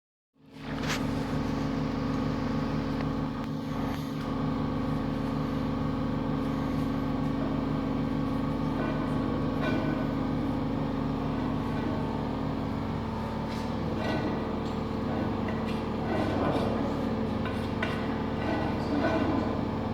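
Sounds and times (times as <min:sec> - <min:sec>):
workshop machine humming: 0:00.4 - 0:19.9.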